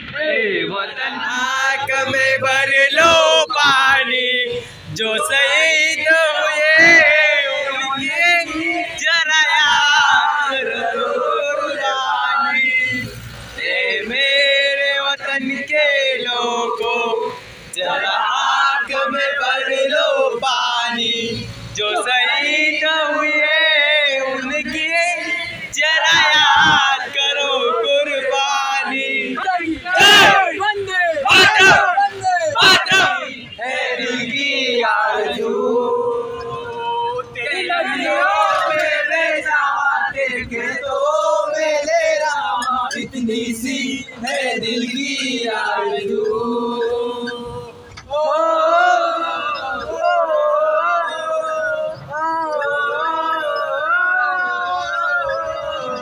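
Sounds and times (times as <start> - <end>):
young men chanting: 0.0 - 56.0.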